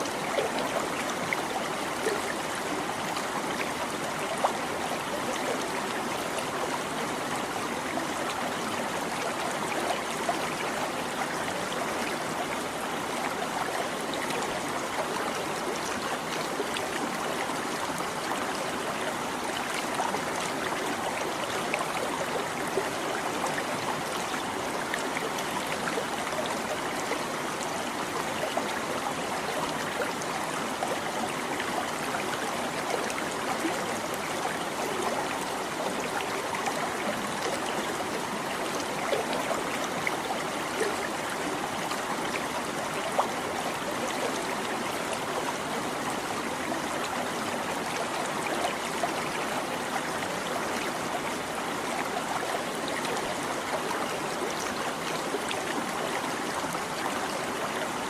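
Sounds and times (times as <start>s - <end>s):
stream babbling over rocks: 0.0s - 58.0s
water splashes and trickles: 0.0s - 58.0s.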